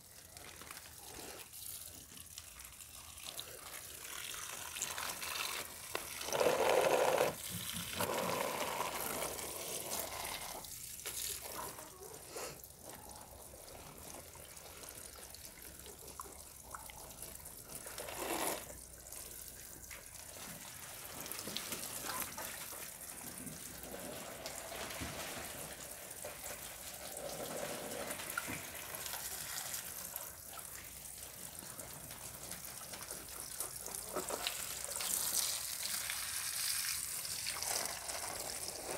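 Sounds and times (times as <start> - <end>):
water pouring onto plants: 0.0 - 38.9.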